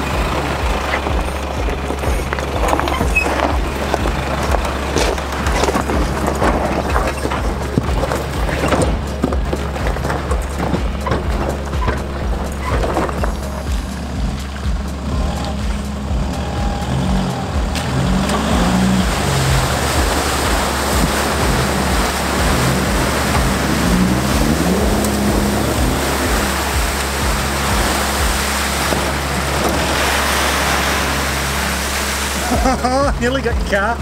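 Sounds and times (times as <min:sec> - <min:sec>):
background music with steady beat: 0:00.0 - 0:34.0
engine revving in surges: 0:00.0 - 0:34.0
tyres churning through mud: 0:00.0 - 0:34.0.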